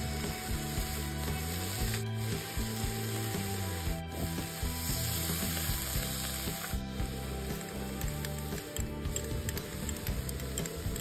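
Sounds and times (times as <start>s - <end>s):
noodles sizzling in wok: 0.0s - 11.0s.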